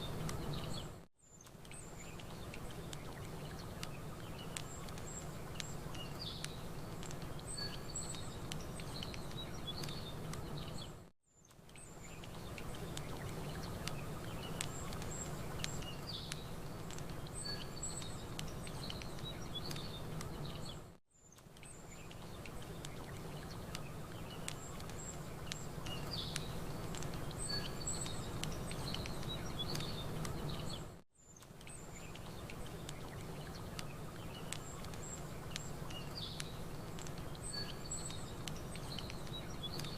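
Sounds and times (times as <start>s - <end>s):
campfire crackling: 0.0s - 39.9s
small birds chirping: 0.0s - 39.9s.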